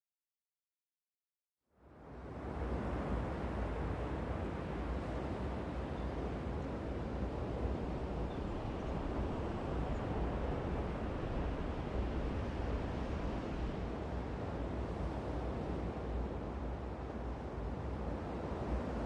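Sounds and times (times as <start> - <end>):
wind: 1.6 - 19.0.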